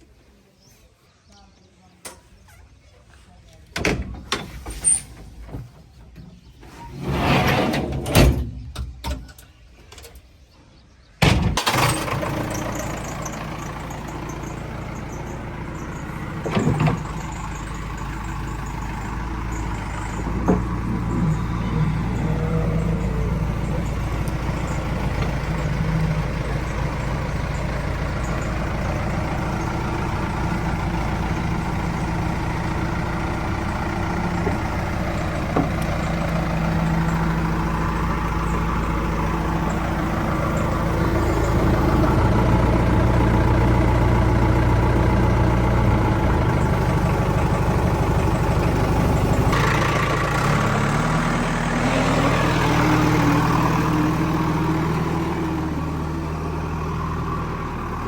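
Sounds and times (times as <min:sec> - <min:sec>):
heavy diesel machinery engine: 0:03.5 - 0:09.2, 0:11.2 - 0:58.0.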